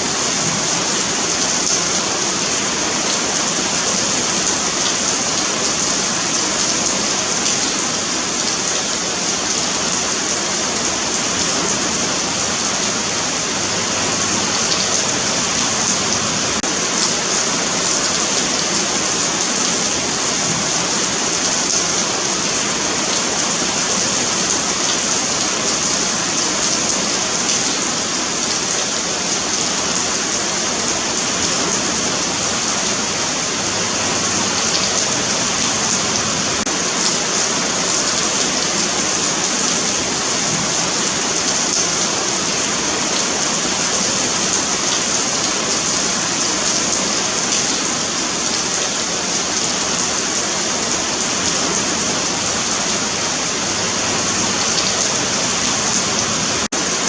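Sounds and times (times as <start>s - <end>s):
rain on pavement: 0.0s - 57.0s.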